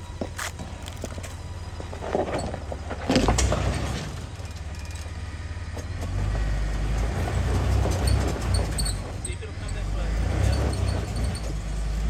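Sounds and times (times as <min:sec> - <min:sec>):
car engine rumbling: 0:00.0 - 0:12.0
rocks crunching under tyres: 0:00.0 - 0:12.0.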